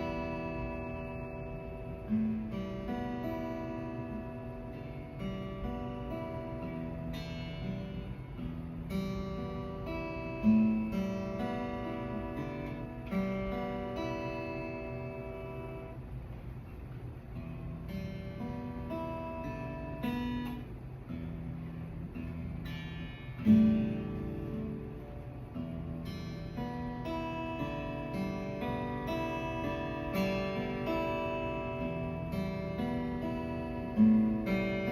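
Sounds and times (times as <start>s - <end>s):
plucked guitar-like strings: 0.0s - 34.9s.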